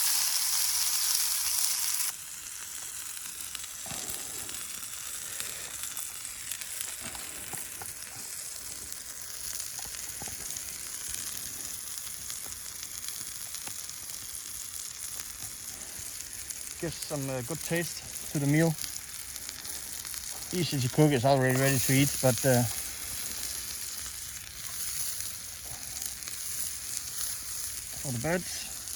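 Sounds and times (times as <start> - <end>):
tomatoes sizzling in a pan: 0.0 - 28.9.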